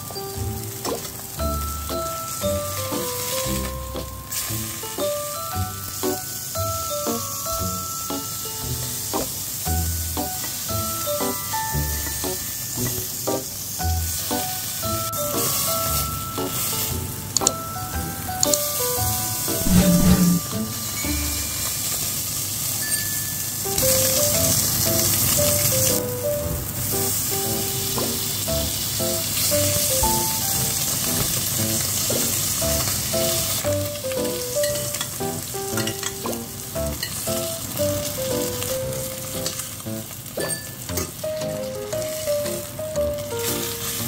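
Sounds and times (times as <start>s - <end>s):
fish sizzling in a pan: 0.0s - 17.2s, 18.1s - 44.0s
background music: 0.0s - 21.6s, 23.8s - 40.2s, 40.9s - 44.0s.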